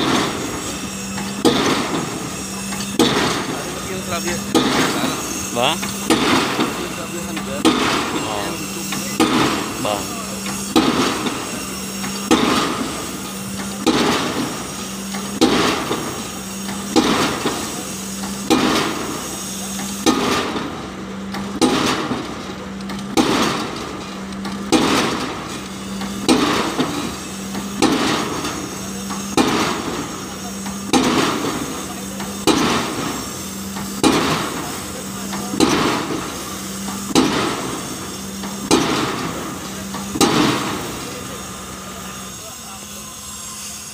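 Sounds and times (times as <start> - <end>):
pile hammer blows: 0.0 - 20.8, 21.4 - 42.4.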